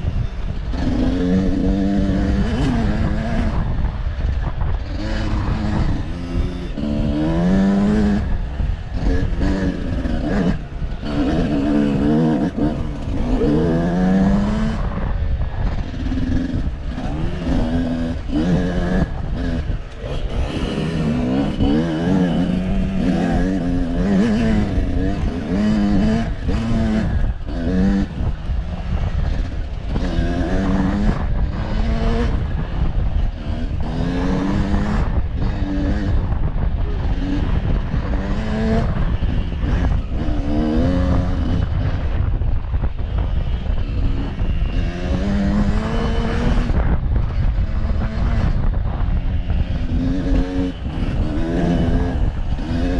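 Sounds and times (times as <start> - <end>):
vehicle engine revving: 0.0 - 52.9.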